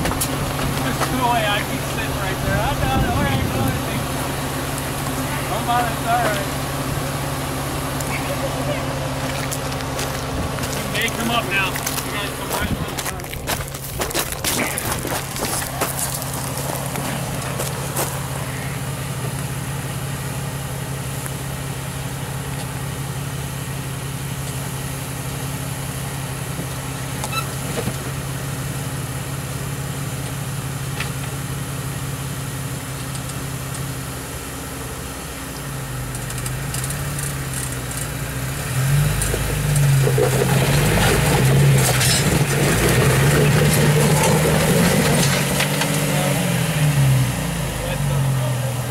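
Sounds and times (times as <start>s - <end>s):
engine idling and revving: 0.0s - 48.9s.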